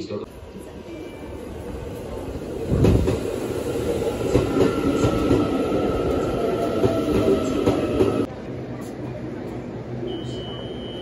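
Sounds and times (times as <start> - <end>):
steady high train whine: 0.3 - 11.0.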